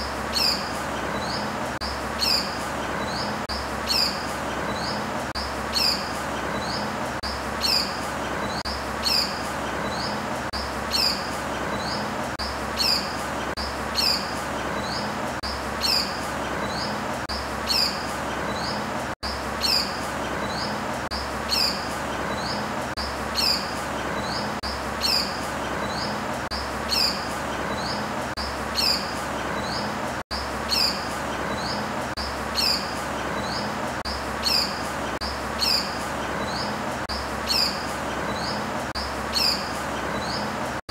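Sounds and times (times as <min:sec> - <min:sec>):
bird chirping: 0:00.0 - 0:40.6.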